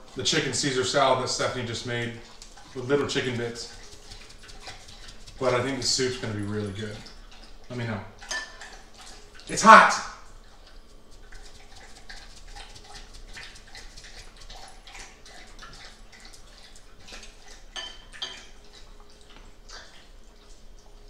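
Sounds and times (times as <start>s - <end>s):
dog lapping water: 0.0s - 21.0s.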